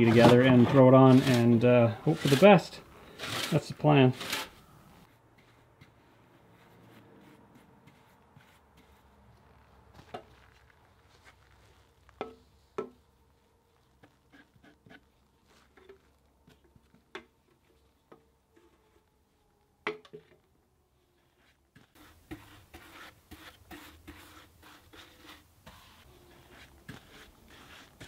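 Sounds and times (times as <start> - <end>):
paintbrush brushing on wood: 0.0 - 16.6, 21.2 - 28.0.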